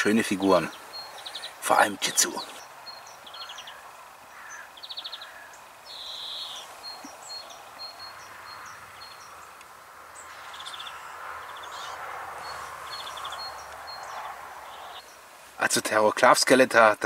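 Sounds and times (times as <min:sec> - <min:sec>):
birds trilling: 0:00.0 - 0:15.3
small birds chirping: 0:00.0 - 0:16.9
faint background hiss: 0:00.0 - 0:17.0.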